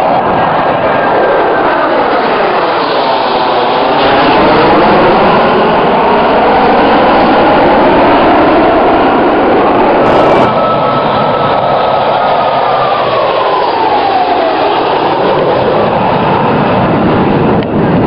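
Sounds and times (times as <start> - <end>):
fighter jets roaring past: 0.0 - 18.0.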